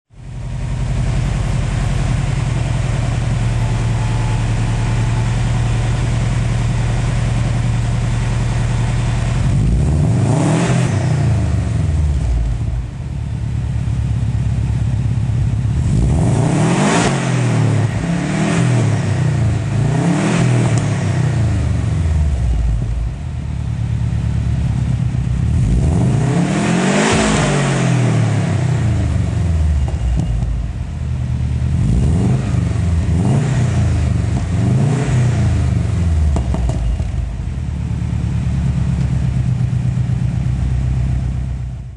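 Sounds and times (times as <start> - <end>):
car engine idling and revving: 0.1 - 41.9.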